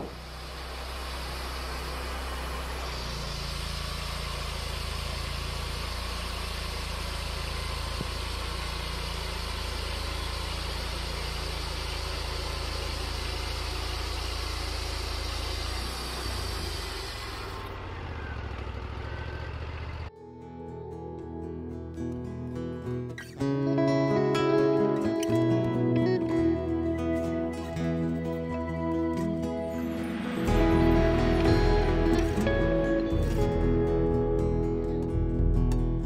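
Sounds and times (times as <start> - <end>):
sawmill engine running: 0.0 - 20.1, 24.5 - 35.5.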